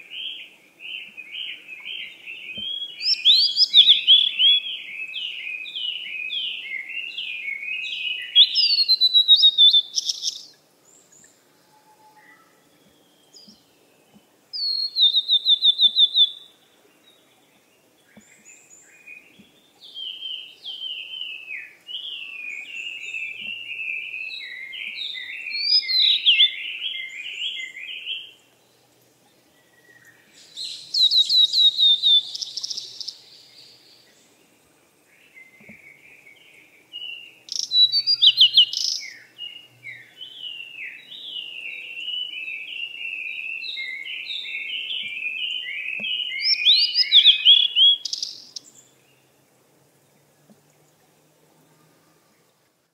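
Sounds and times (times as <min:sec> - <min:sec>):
songbirds singing: 0:00.0 - 0:52.7.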